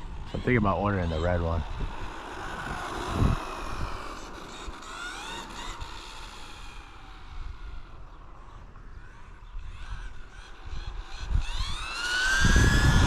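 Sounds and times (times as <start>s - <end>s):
electric motor whining: 0.0s - 13.0s
low rumble of tyres or wind: 0.0s - 13.0s.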